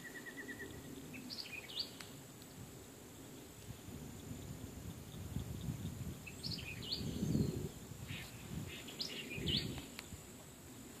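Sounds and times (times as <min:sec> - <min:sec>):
birds chirping: 0:00.0 - 0:02.2, 0:03.1 - 0:10.6.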